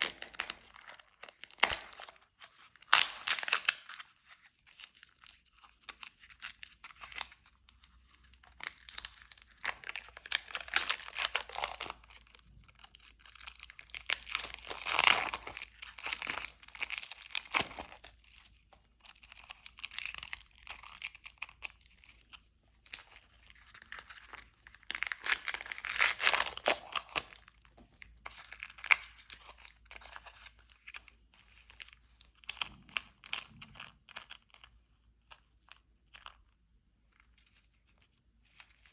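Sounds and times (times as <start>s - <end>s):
candy wrappers crinkling: 0.0s - 36.6s.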